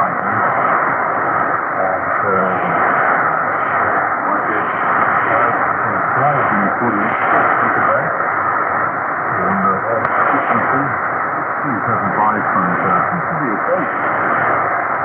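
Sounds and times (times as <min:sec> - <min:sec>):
faint radio programme: 0:00.0 - 0:15.0
shortwave radio hiss: 0:00.0 - 0:15.0.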